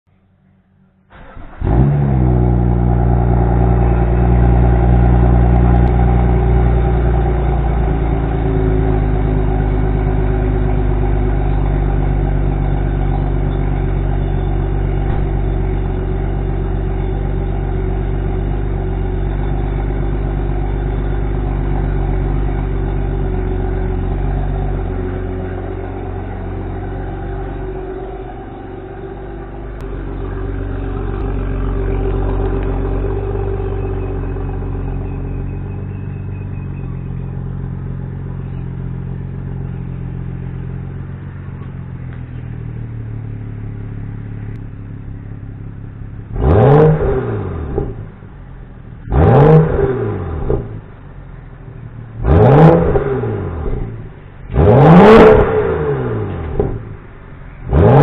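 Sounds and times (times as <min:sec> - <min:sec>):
car engine cranking and idling: 0:00.0 - 0:58.0.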